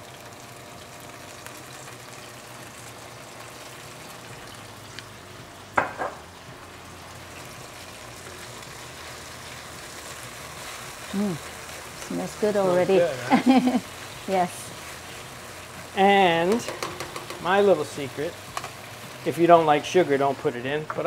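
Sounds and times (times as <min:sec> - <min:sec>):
sauce sizzling in a wok: 0:00.0 - 0:21.0.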